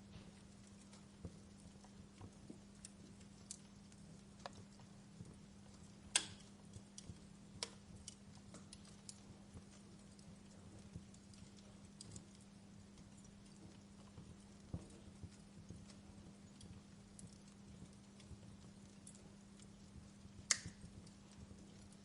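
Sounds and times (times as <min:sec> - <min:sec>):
steady low hum: 0:00.0 - 0:22.0
wood fire crackling: 0:00.0 - 0:22.0.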